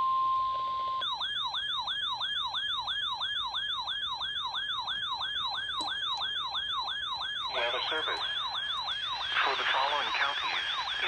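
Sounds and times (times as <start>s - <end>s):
electronic siren yelp: 1.0s - 11.0s.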